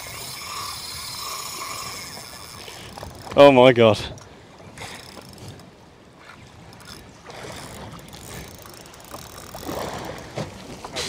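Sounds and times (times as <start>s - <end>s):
water washing around a boat: 0.0s - 11.0s
wind: 0.0s - 11.0s.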